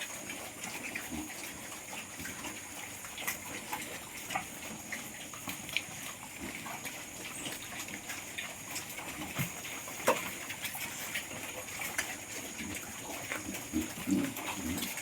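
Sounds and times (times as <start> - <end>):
piglets grunting and snuffling: 0.0 - 15.0.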